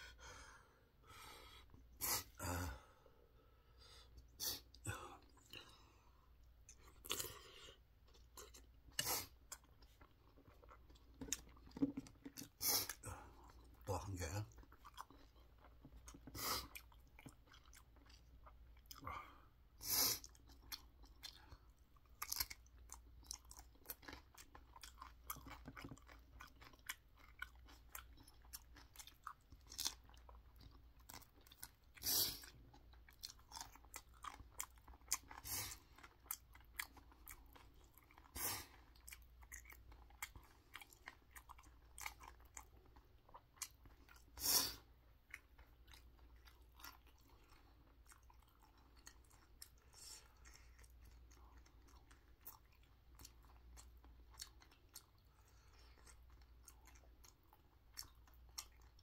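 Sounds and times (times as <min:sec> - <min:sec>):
soft chewing: 0:01.0 - 0:59.0.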